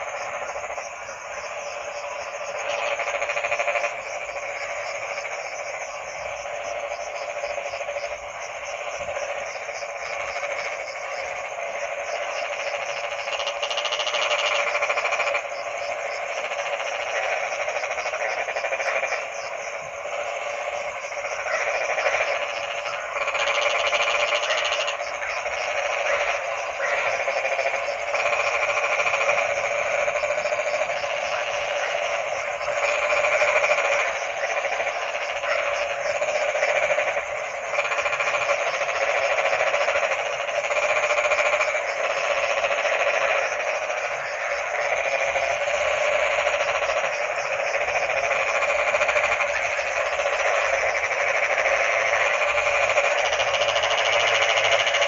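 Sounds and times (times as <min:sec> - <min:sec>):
chorus of frogs croaking: 0:00.0 - 0:55.0.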